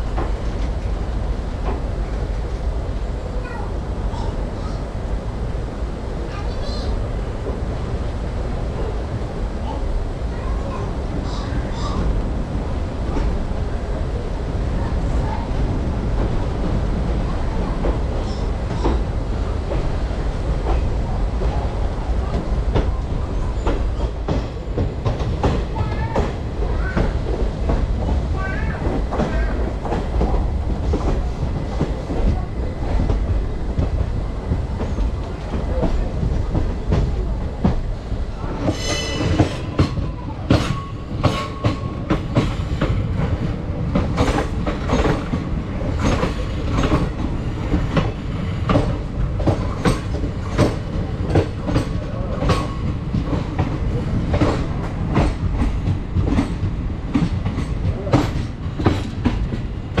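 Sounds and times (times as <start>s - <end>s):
train wheels clicking on rails: 0.0s - 5.6s, 6.2s - 60.0s.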